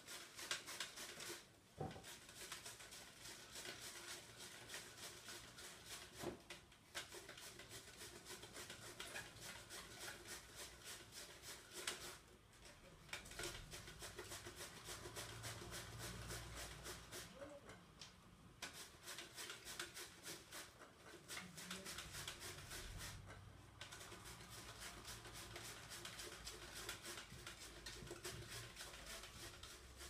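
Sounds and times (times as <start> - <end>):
cabbage rasping on a grater: 0.0 - 12.3, 13.2 - 17.4, 18.6 - 30.0.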